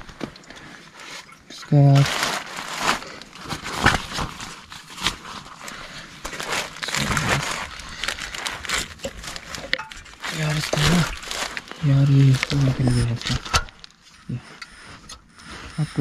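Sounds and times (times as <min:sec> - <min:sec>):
plastic bags crinkling: 0:01.3 - 0:14.2.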